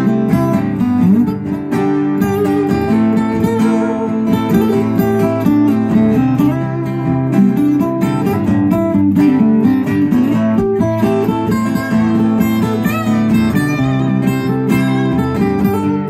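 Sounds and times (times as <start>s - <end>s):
picked guitar notes: 0.0s - 16.0s
strummed guitar chords: 0.0s - 16.0s.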